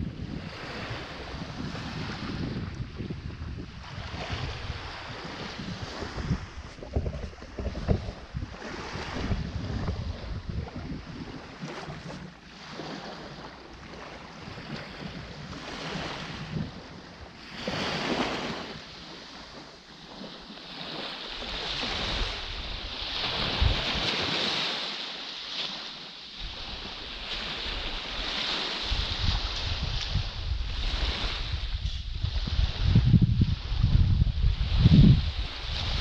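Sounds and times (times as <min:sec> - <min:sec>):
wind buffeting microphone: 0:00.0 - 0:19.2, 0:20.1 - 0:24.6, 0:26.4 - 0:36.0
small waves breaking on sand: 0:00.0 - 0:36.0.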